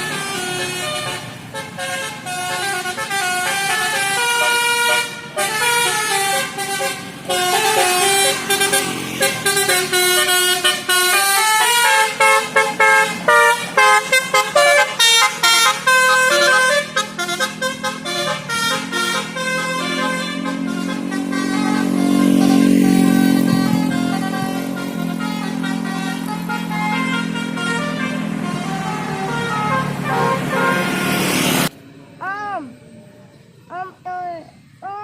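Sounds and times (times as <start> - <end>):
musical air horn melody: 0.0 - 31.7.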